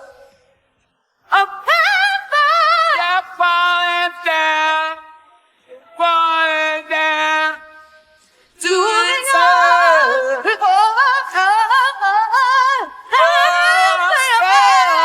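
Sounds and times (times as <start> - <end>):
woman singing with vibrato: 0.0 - 0.3, 1.3 - 5.1, 5.7 - 15.0.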